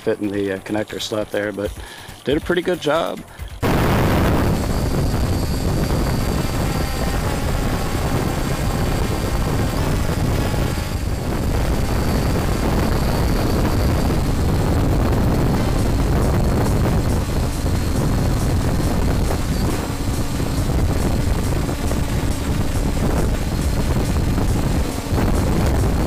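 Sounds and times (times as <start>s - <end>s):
drone propellers buzzing: 3.2s - 26.0s.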